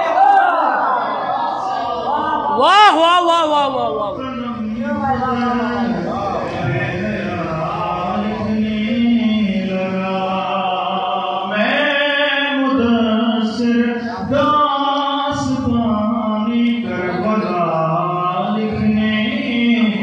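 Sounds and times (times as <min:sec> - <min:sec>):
man chanting into microphone: 0:02.9 - 0:20.0.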